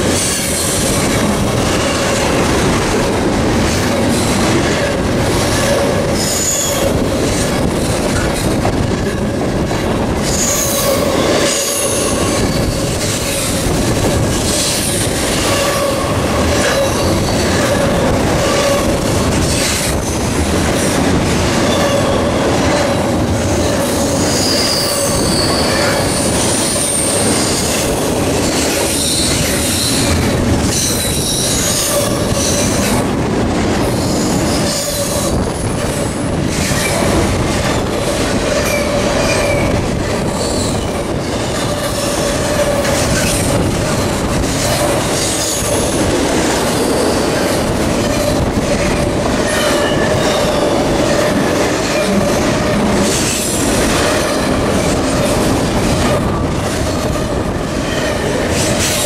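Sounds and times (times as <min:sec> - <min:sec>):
freight train rumbling past: 0:00.0 - 0:59.0
wheels squealing on rail: 0:04.1 - 0:09.0, 0:10.2 - 0:20.2, 0:21.5 - 0:23.0, 0:23.6 - 0:33.1, 0:33.9 - 0:46.0, 0:46.7 - 0:59.0.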